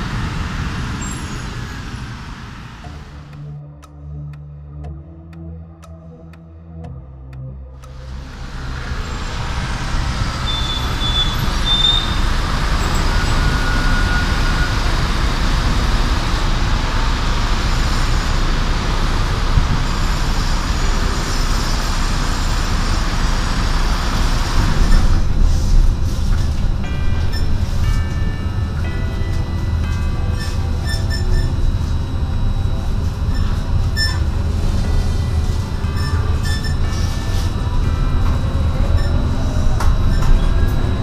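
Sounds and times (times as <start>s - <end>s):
road traffic noise: 0.0s - 41.0s
tram approaching: 0.0s - 41.0s
tram running rumble: 0.0s - 41.0s
whining tones: 7.8s - 41.0s.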